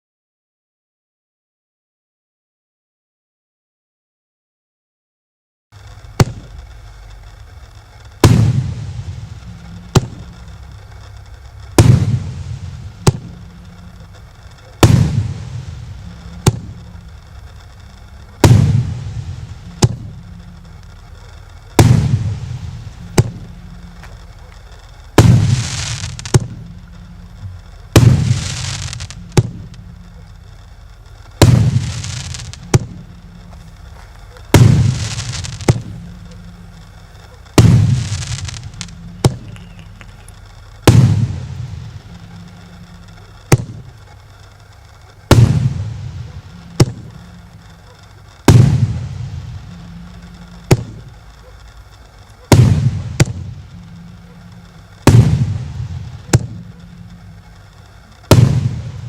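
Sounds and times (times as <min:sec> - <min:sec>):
fireworks aerial burst: 0:05.8 - 0:59.0
fireworks launch thump: 0:05.8 - 0:59.0.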